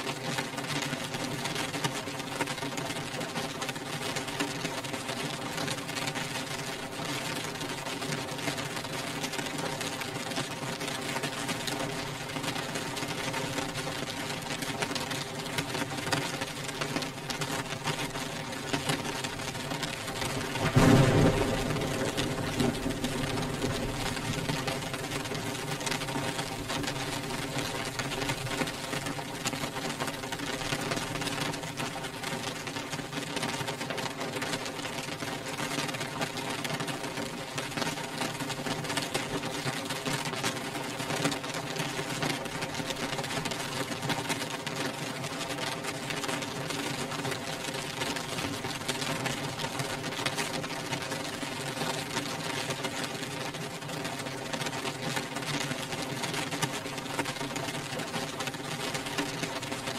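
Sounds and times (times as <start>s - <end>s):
rain pattering on window glass: 0.0s - 59.9s.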